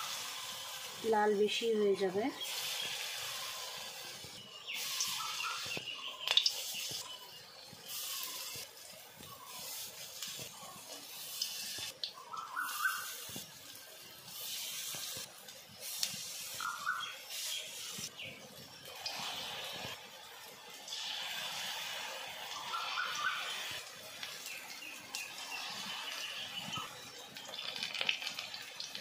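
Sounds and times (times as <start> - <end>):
batter sizzling in hot oil: 0.0 - 29.0.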